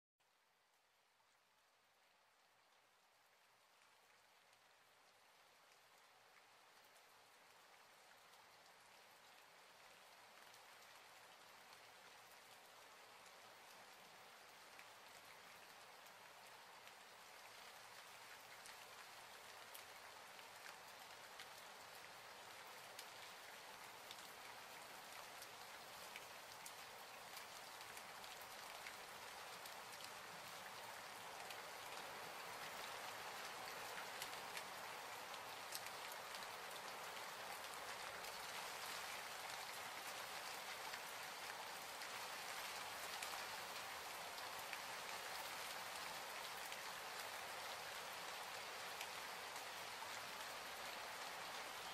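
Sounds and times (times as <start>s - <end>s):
raindrops ticking on a surface: 0.2s - 51.9s.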